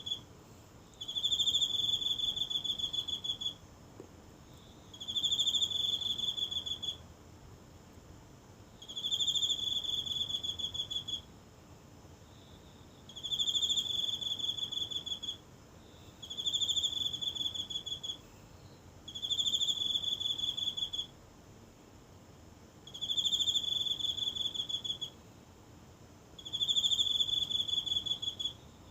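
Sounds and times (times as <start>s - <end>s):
cricket trilling: 0.0s - 0.3s, 0.9s - 3.7s, 4.4s - 7.1s, 8.6s - 11.3s, 12.0s - 21.2s, 22.1s - 25.2s, 26.2s - 28.9s.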